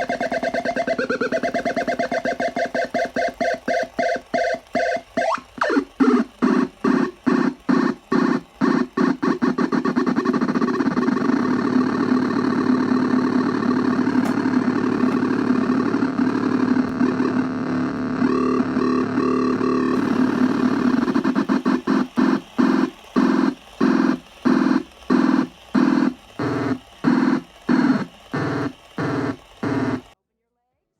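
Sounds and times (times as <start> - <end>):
buzzy electronic drone: 0.0 - 30.2.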